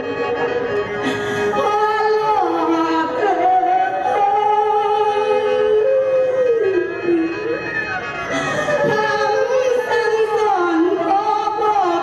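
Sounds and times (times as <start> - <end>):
melody of sliding held notes: 0.0 - 10.5.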